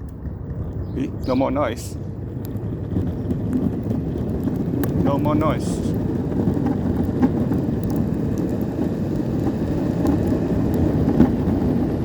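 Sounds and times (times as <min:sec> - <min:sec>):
skateboard wheels rolling: 0:00.0 - 0:12.0.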